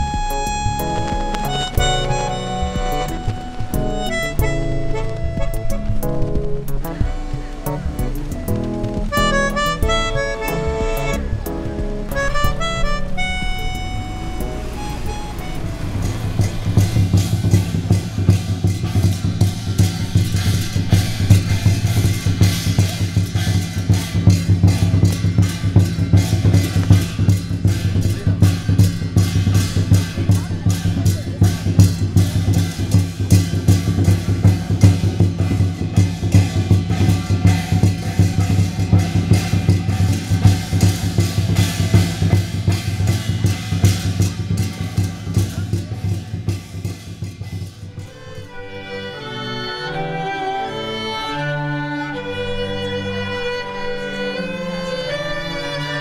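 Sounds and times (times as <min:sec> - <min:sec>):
fast steady drumming: 0:00.0 - 0:49.3.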